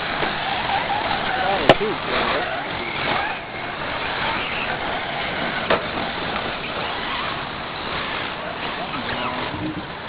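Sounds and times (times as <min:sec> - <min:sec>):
rc truck motor whine: 0:00.0 - 0:10.0
tyres on dirt: 0:00.0 - 0:10.0.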